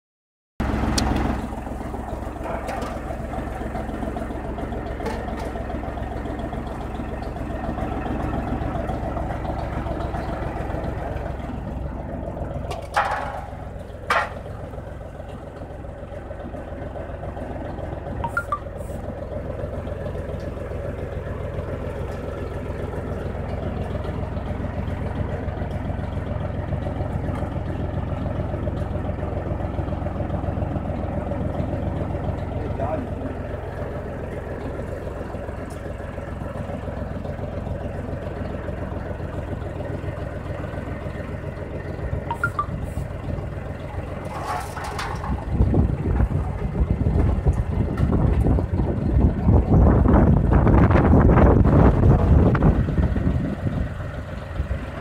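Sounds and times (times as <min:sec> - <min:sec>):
tractor engine running: 0:00.6 - 0:55.0.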